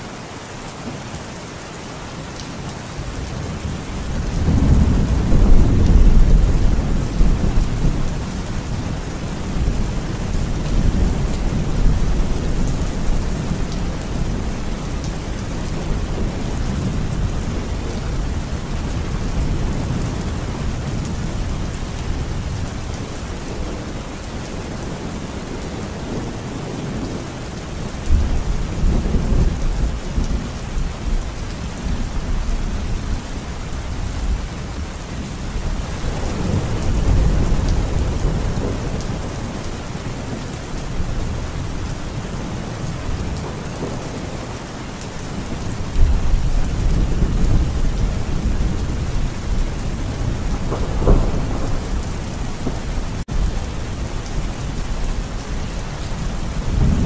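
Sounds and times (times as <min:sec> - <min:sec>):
heavy rain falling: 0:00.0 - 0:57.0
thunder rumbling: 0:03.7 - 0:27.2, 0:34.0 - 0:57.0.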